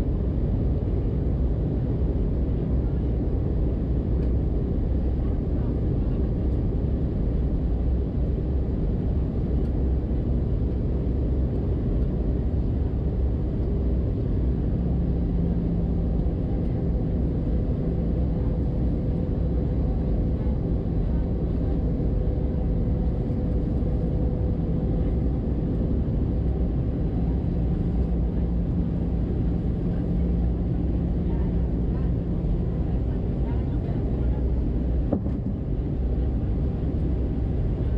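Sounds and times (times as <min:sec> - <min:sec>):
jet engine cabin rumble: 0:00.0 - 0:37.9
steady low hum: 0:00.0 - 0:37.9.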